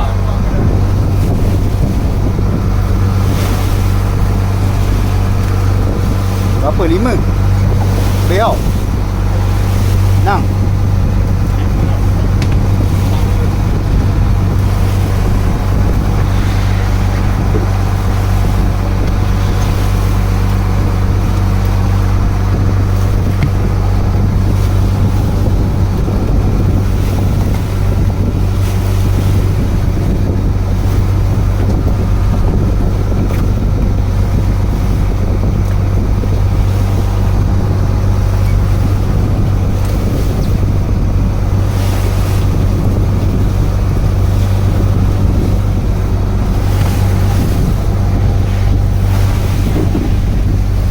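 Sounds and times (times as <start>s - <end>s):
boat engine droning: 0.0s - 50.9s
water washing against hull: 0.0s - 50.9s
wind buffeting microphone: 0.0s - 50.9s.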